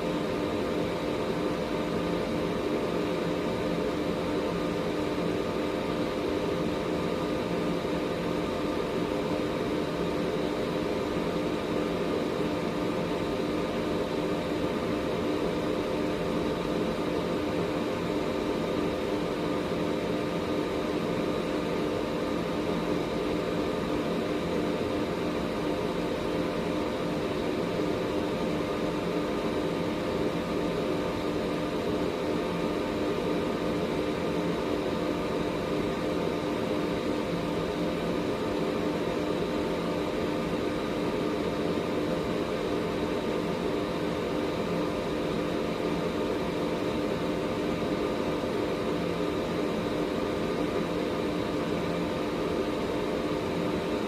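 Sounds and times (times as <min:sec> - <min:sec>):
air purifier fan rushing air: 0:00.0 - 0:54.0.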